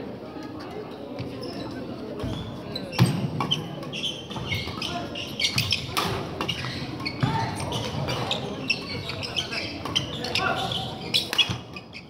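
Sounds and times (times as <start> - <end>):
shoe squeaks: 1.2 - 12.0.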